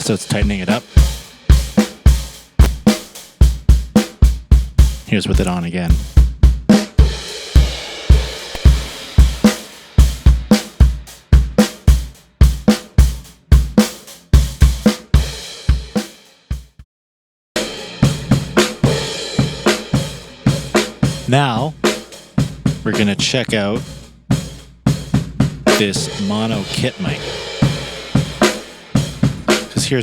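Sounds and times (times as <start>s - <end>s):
drum kit groove: 0.0s - 16.8s, 17.6s - 30.0s.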